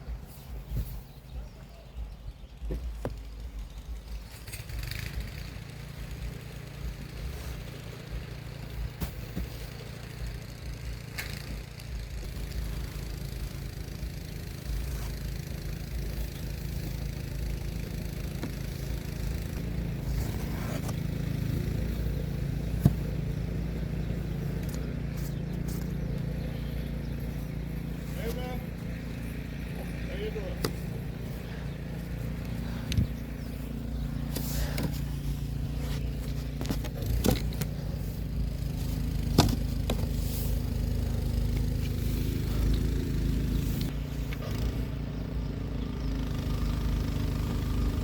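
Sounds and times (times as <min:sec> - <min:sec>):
engine running with low drone: 0:00.0 - 0:48.0.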